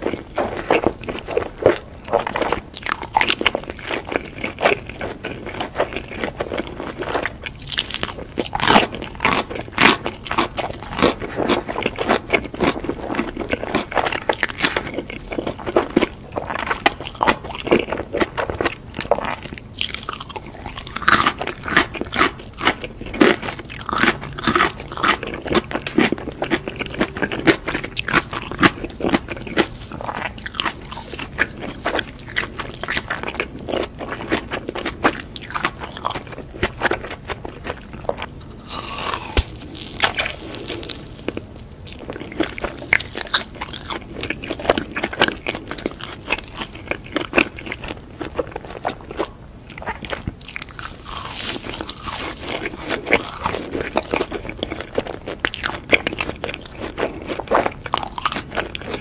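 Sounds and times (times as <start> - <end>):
chewing crunchy fried food: 0.0 - 59.0.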